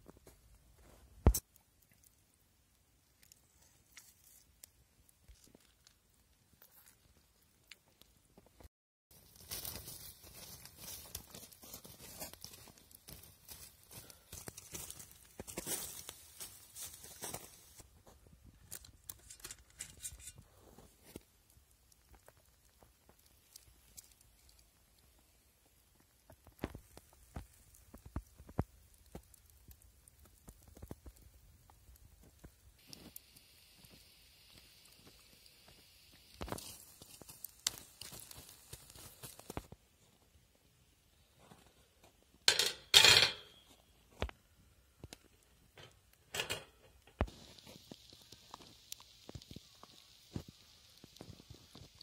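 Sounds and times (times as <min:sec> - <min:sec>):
fish grilling over charcoal crackling: 0:00.0 - 0:08.3, 0:09.1 - 0:39.8, 0:44.9 - 0:52.0
faint steady hiss: 0:00.0 - 0:52.0.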